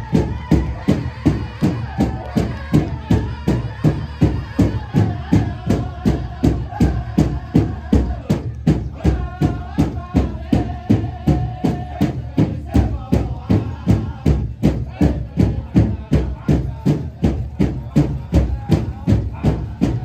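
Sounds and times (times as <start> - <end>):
large drum steady beat: 0.0 - 20.0
voices singing together: 0.0 - 20.0.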